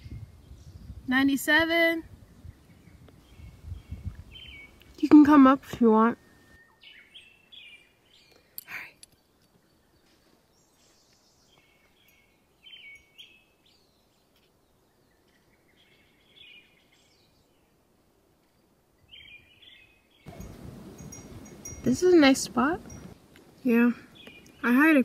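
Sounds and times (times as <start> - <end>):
birds chirping faintly: 0.0 - 25.0.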